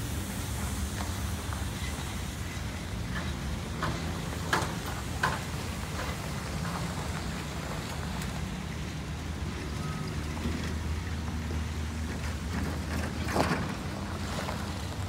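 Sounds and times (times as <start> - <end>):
van engine rumble: 0.0 - 15.0
tyres crackling over gravel: 0.1 - 15.0.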